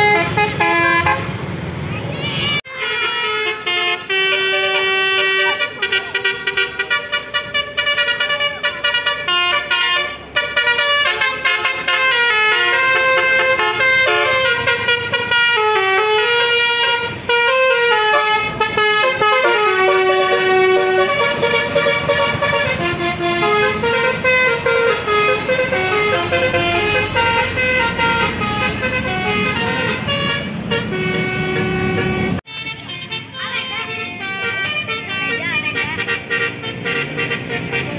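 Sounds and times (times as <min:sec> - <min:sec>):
multi-tone bus horn tunes: 0:00.0 - 0:01.4, 0:02.6 - 0:37.9
bus engine running: 0:00.0 - 0:37.9.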